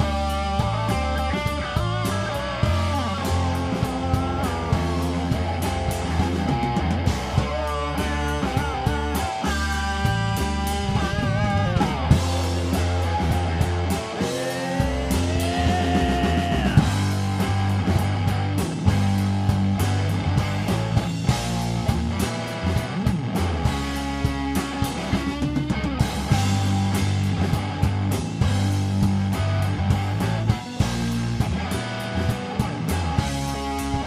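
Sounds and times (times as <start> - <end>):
drum kit with cymbals: 0.0 - 34.0
electric bass: 0.0 - 34.0
electric guitar: 0.0 - 34.0.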